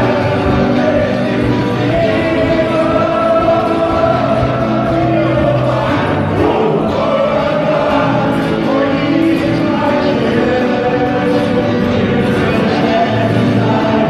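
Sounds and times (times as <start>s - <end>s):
men singing a worship song: 0.0s - 14.0s
music: 0.0s - 14.0s.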